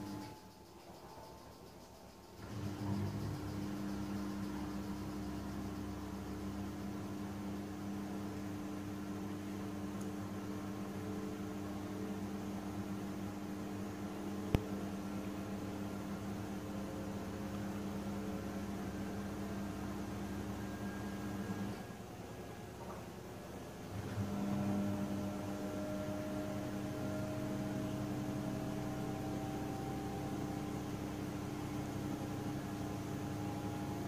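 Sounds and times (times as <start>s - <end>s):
drain pump humming: 2.4s - 34.0s.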